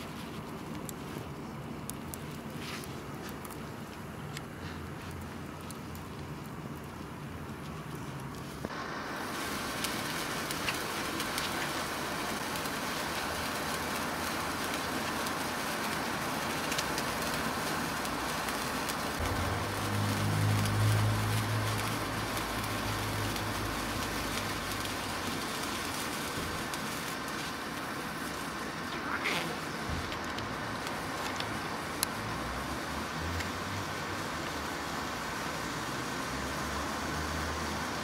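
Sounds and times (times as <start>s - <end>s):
sparkler fizzing and crackling: 0.0s - 38.0s.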